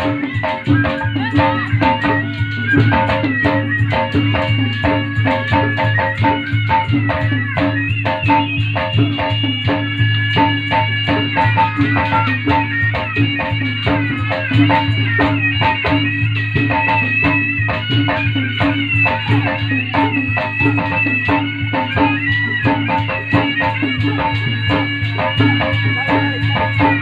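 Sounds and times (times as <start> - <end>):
fast drum beat: 0.0 - 27.0
reed pipe melody: 0.0 - 27.0.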